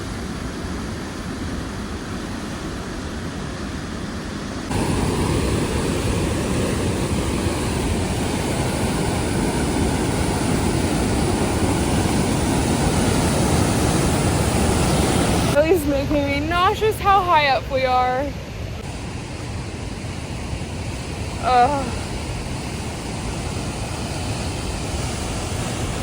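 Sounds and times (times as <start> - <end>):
waterfall rushing: 4.7 - 26.0.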